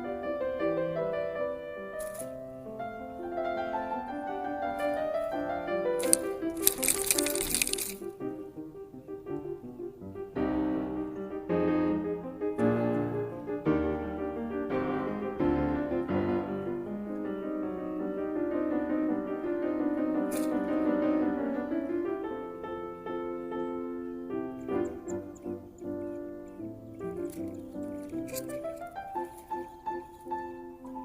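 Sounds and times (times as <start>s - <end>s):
piano chords: 0.0s - 31.0s.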